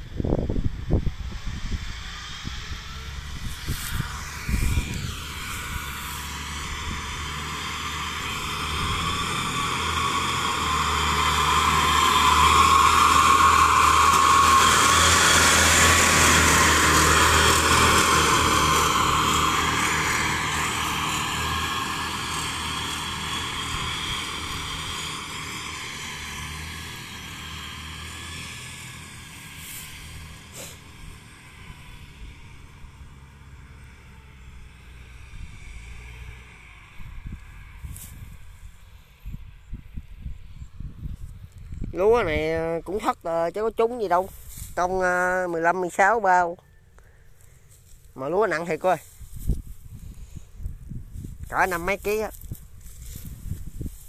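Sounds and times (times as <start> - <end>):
combine harvester running: 0.0 - 40.0, 41.1 - 54.0.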